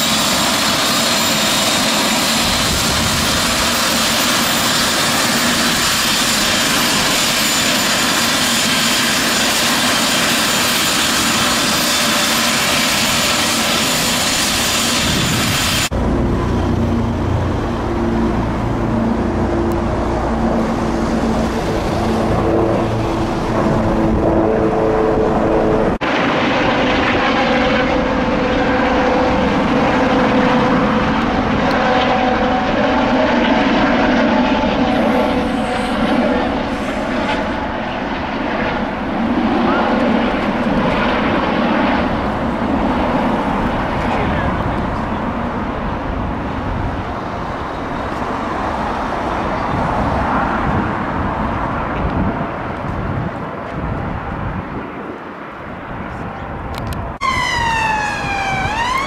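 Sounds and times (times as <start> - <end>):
helicopter engine whine: 0.0 - 59.0
helicopter rotor noise: 0.0 - 59.0.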